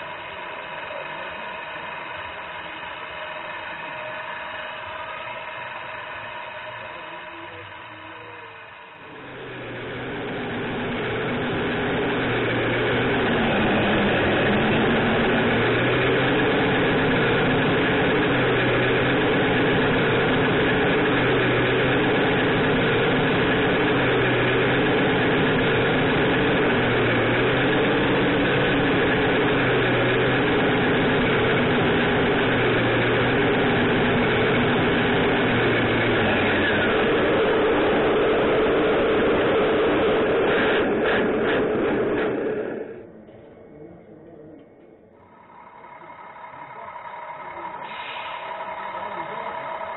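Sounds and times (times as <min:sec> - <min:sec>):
electronic diesel engine sound: 0:00.0 - 0:49.9.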